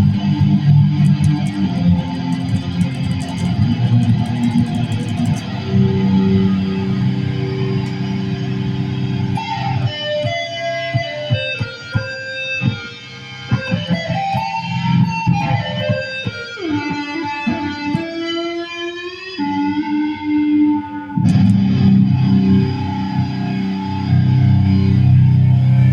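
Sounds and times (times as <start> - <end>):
electric guitar notes: 0.0 - 25.9.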